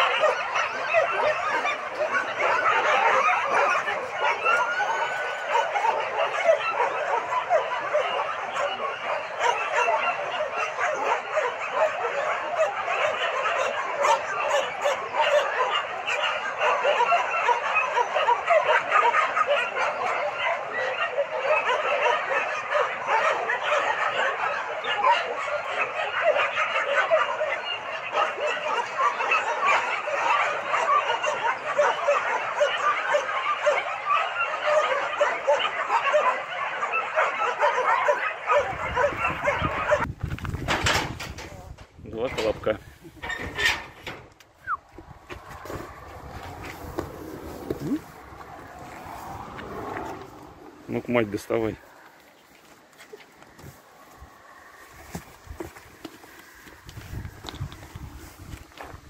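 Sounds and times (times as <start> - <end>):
dogs and puppies barking: 0.0 - 59.0.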